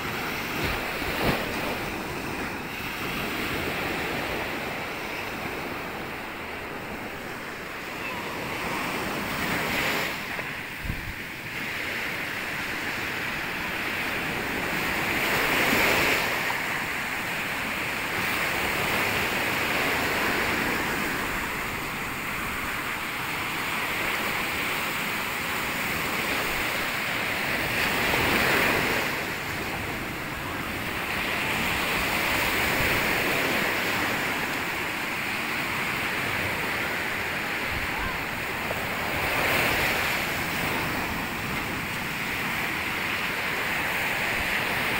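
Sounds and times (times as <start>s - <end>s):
waves breaking on beach: 0.0s - 44.9s.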